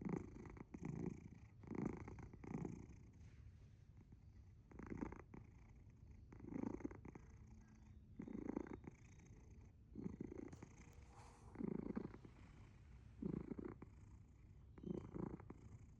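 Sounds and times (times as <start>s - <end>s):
cat rhythmic rumble: 0.0s - 15.9s.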